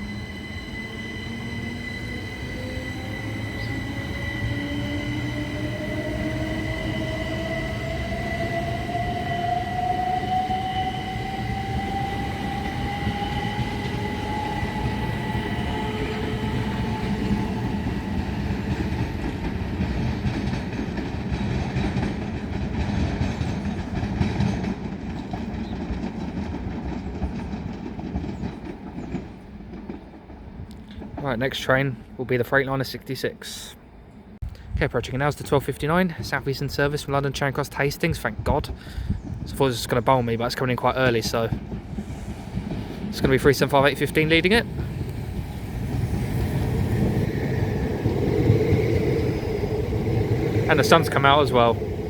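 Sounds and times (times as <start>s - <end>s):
train wheels rumbling: 0.0s - 52.0s.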